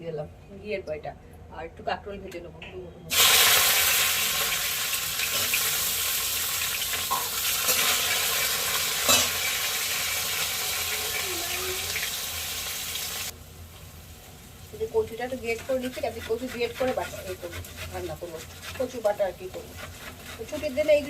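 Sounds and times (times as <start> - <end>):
vegetables sizzling in oil: 3.1 - 21.0.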